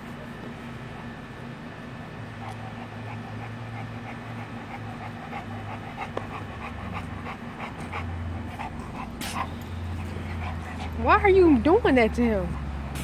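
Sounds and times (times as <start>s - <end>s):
dog panting: 2.1s - 13.0s.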